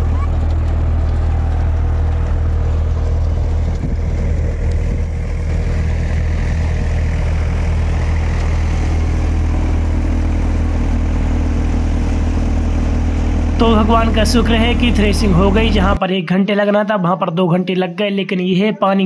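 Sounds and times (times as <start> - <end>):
thresher engine drone: 0.0 - 16.0.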